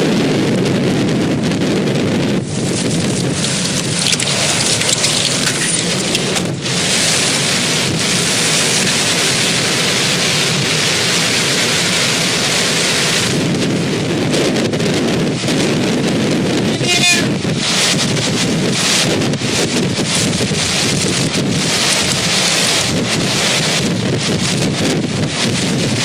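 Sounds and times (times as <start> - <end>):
heavy rain hissing: 2.1 - 26.0.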